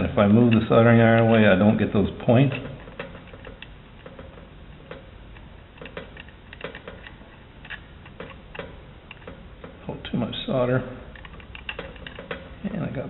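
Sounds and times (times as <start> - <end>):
solder flux crackling: 0.0 - 13.0
steady low hum: 0.0 - 13.0.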